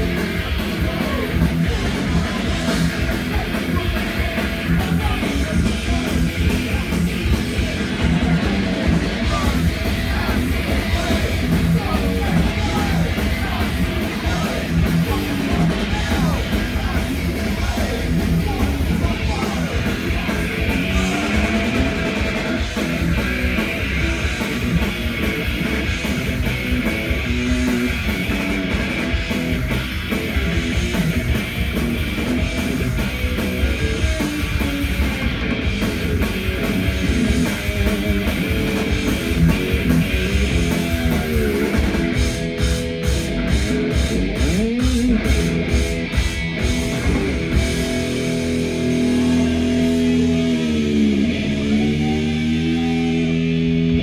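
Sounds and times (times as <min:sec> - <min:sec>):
bass guitar: 0:00.0 - 0:54.0
distorted electric guitars: 0:00.0 - 0:54.0
fast drum kit: 0:00.0 - 0:54.0.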